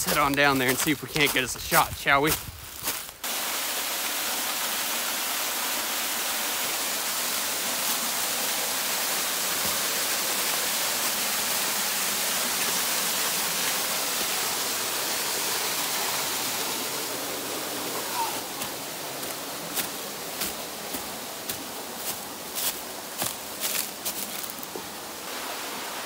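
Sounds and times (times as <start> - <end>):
waterfall splashing into pool: 3.2 - 26.0.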